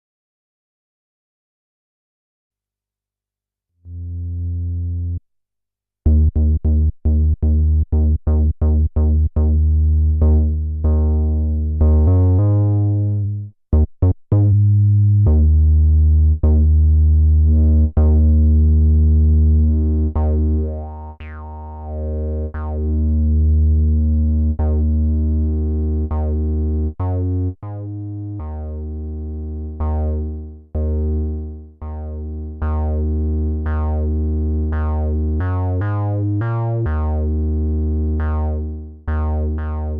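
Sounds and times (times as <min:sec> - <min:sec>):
synthesizer bass line: 0:06.1 - 0:39.9.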